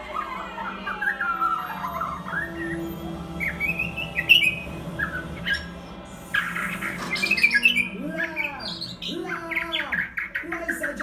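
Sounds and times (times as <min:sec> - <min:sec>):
low hum: 0:00.0 - 0:09.5
bird squawking: 0:00.0 - 0:11.0
bird singing whistled phrases: 0:00.8 - 0:05.7, 0:06.4 - 0:11.0.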